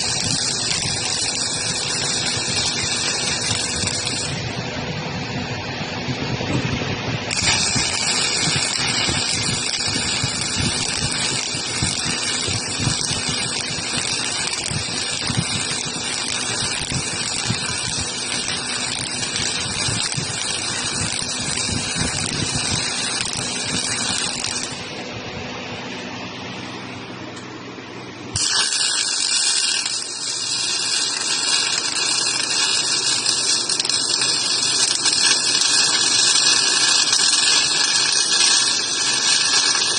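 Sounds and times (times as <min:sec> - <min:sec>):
welding arc hissing and crackling: 0:00.0 - 0:04.9, 0:06.4 - 0:25.0, 0:28.3 - 0:39.9.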